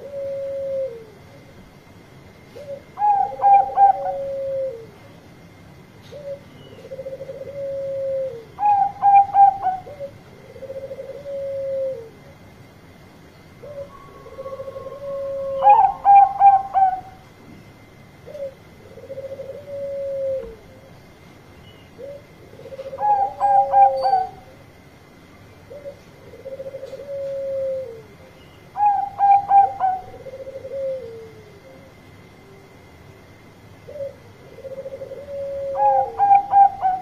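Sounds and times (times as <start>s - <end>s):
dove cooing: 0.0s - 5.1s, 6.0s - 12.9s, 13.5s - 21.2s, 21.8s - 24.8s, 25.6s - 37.0s.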